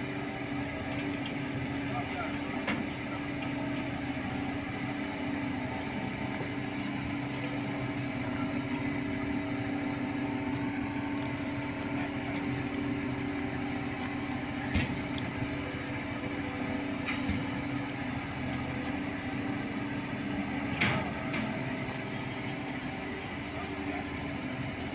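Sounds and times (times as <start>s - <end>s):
diesel engine running under load: 0.0s - 24.9s.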